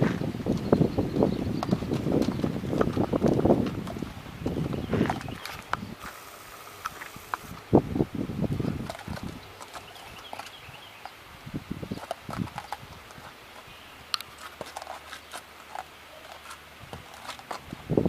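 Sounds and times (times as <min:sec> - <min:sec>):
horse hooves striking ground: 0:00.0 - 0:18.0.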